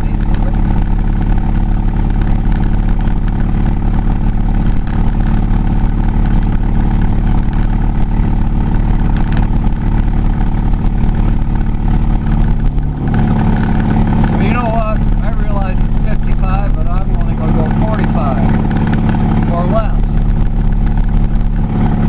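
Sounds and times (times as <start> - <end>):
car engine drone inside cabin: 0.0 - 22.0
road noise: 0.0 - 22.0.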